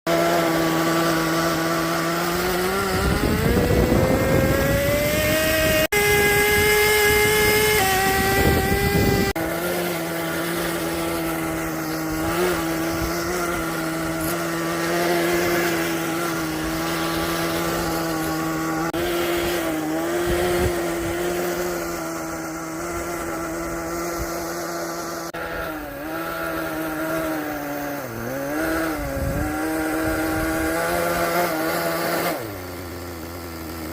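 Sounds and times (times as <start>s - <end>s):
small engine buzzing and revving: 0.0s - 33.9s.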